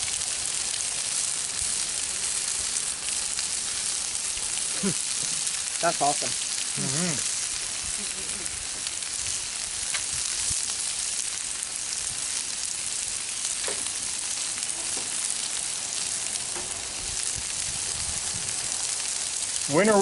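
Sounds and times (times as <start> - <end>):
food sizzling on a griddle: 0.0 - 20.0.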